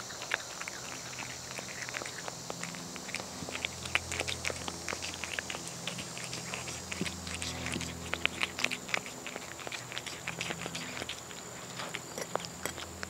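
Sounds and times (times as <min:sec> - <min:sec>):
cat chewing and smacking: 0:00.0 - 0:13.0.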